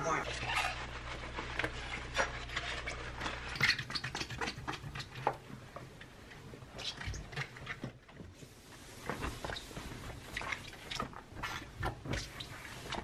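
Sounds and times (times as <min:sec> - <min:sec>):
sponge scrubbing sink: 0:00.0 - 0:13.0.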